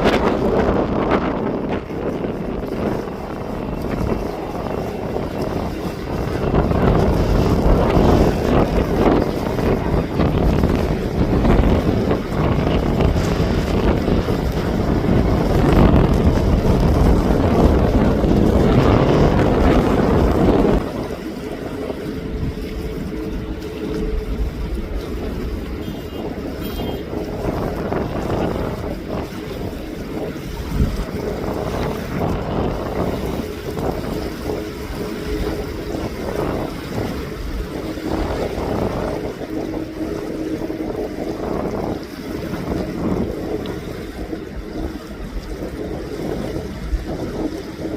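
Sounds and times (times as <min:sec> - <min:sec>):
jet airliner engine noise: 0:00.0 - 0:47.9
wind buffeting microphone: 0:00.0 - 0:47.9.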